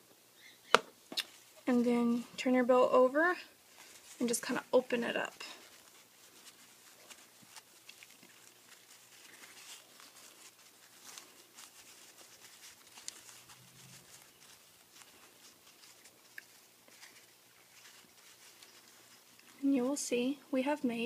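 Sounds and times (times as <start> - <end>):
ribbon rustling and crackling: 0.6 - 21.0.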